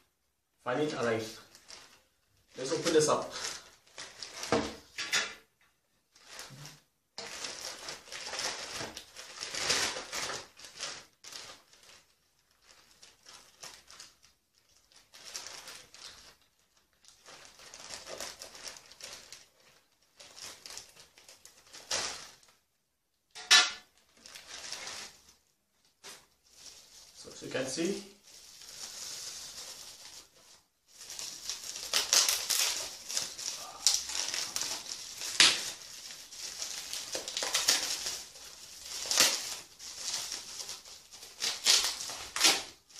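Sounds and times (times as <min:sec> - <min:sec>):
plastic bag crinkling: 0:00.8 - 0:05.0, 0:06.1 - 0:22.6, 0:23.7 - 0:42.9.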